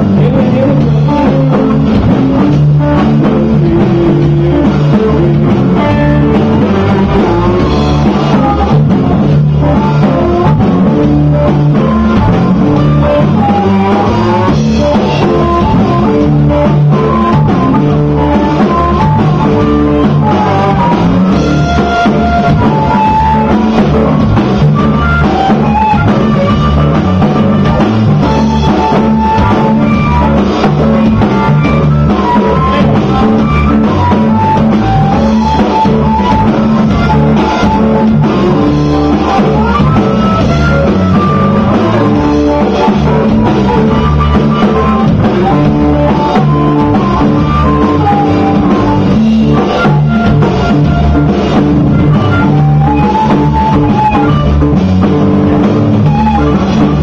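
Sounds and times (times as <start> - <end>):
drum kit: 0.0 - 57.0
electric bass: 0.0 - 57.0
amplified harmonica melody: 0.4 - 57.0.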